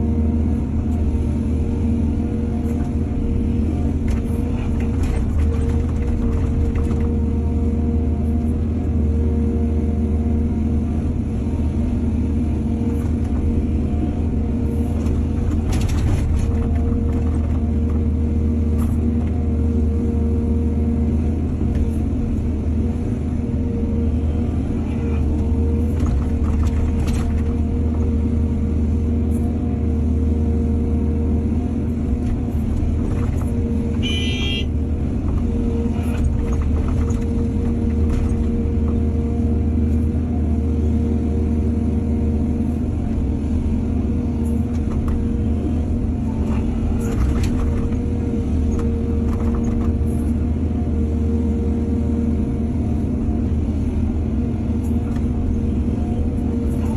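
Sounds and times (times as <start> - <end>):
excavator diesel engine drone: 0.0 - 56.9.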